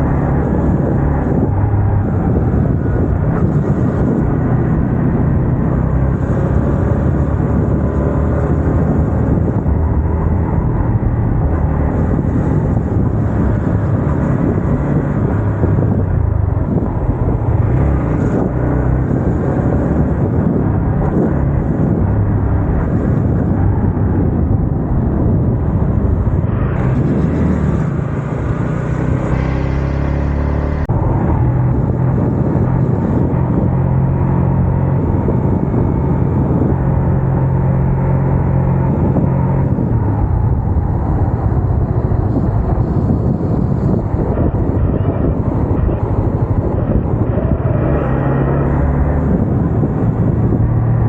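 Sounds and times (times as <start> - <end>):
wind on microphone: 0.0 - 51.0.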